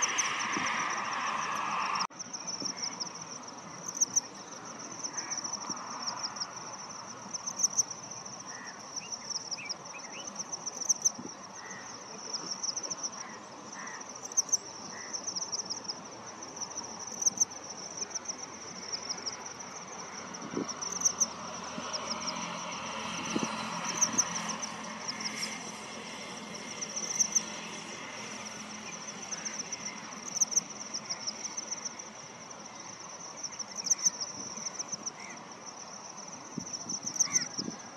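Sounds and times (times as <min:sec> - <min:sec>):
background hiss of insects: 0:00.0 - 0:37.9
insect chirping shrill bursts: 0:00.0 - 0:37.9.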